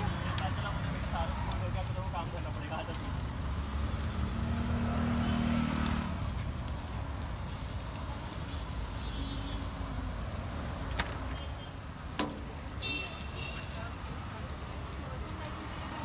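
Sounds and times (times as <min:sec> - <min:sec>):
street traffic rumble: 0:00.0 - 0:16.0
vehicle engine hum: 0:00.0 - 0:16.0.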